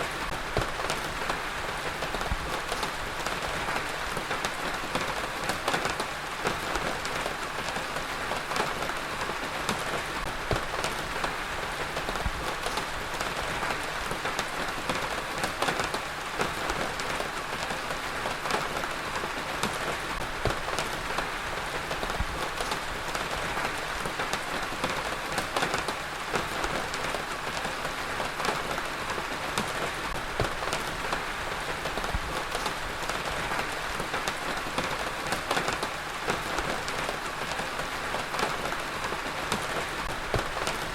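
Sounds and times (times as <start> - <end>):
raindrops hitting hard surface: 0.0 - 40.9.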